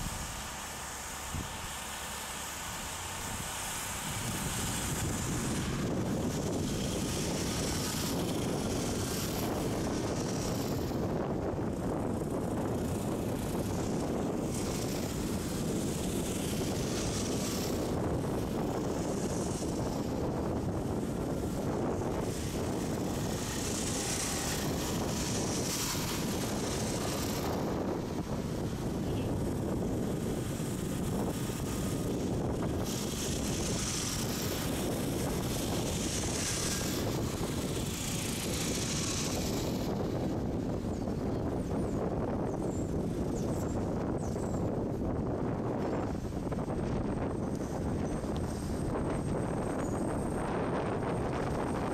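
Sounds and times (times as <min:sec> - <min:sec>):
car road and engine rumble: 0:00.0 - 0:51.9
hiss of wind: 0:00.0 - 0:51.9.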